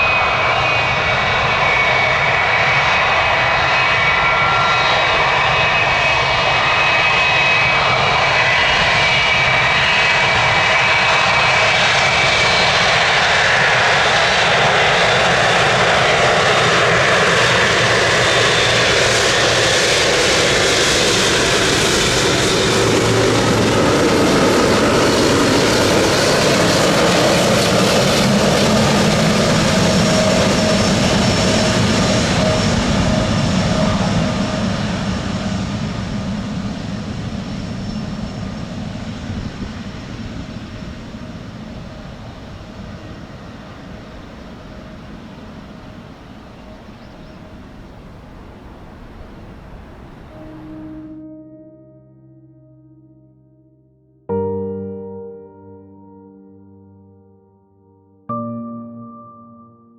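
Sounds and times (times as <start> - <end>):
jet engines rushing: 0.0 - 51.1
high whining jet tones: 0.0 - 51.3.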